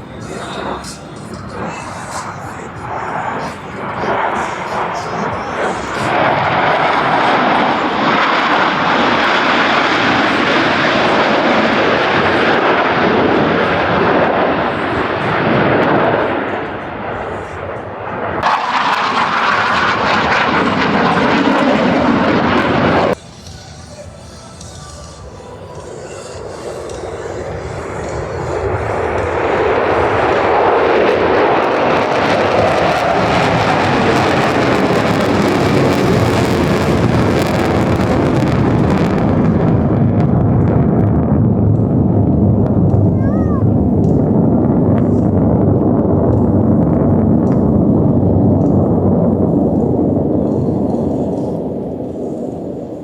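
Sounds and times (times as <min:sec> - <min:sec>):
aircraft engines rushing: 0:00.0 - 0:53.0.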